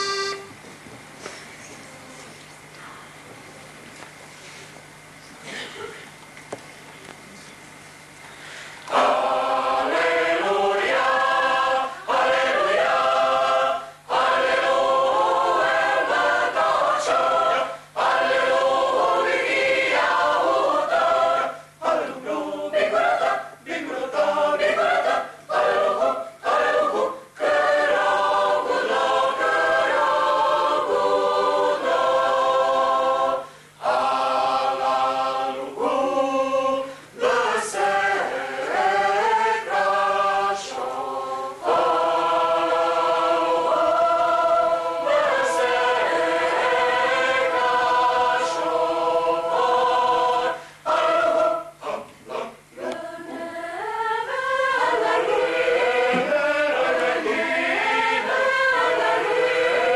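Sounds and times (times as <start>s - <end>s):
faint low hum: 0.0s - 59.9s
mixed choir singing a cappella: 8.9s - 59.9s.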